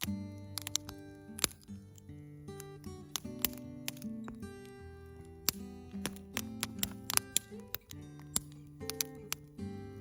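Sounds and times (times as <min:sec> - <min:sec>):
sharp clicks: 0:00.0 - 0:09.6
background music melody: 0:00.0 - 0:10.0.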